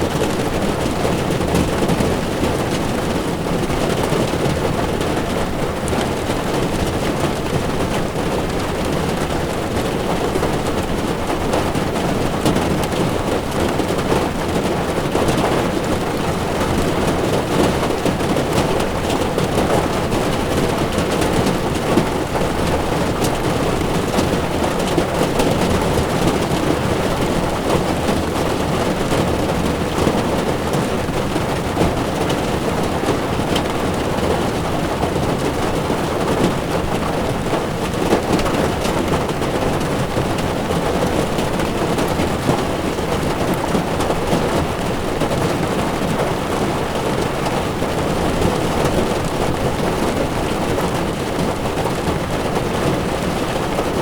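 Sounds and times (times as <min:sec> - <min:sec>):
heavy rain on car windshield: 0:00.0 - 0:54.0.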